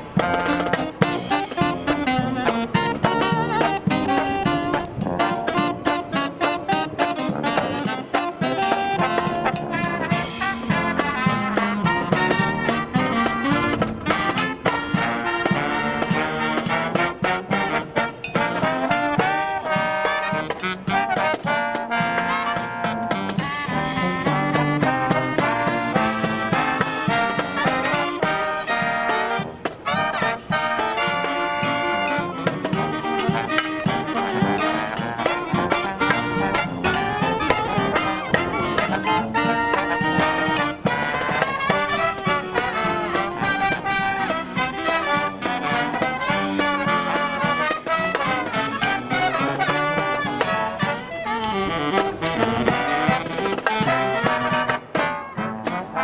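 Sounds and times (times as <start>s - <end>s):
marching brass band playing: 0.0s - 56.0s.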